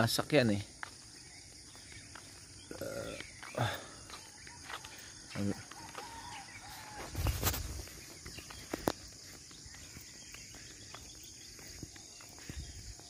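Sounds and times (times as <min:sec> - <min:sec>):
footsteps on paved road: 0:00.0 - 0:13.0
insects chirring: 0:00.0 - 0:13.0.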